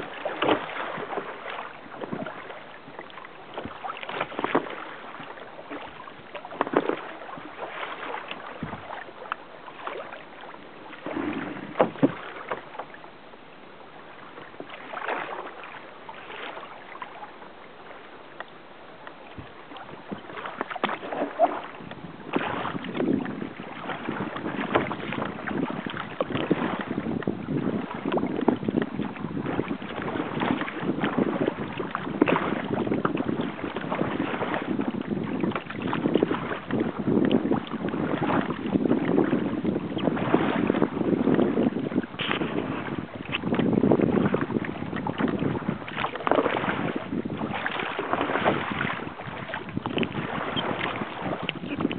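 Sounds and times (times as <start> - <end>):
wind on microphone: 0.0 - 13.0, 19.2 - 51.9
water splashing against kayak hull: 0.0 - 51.9.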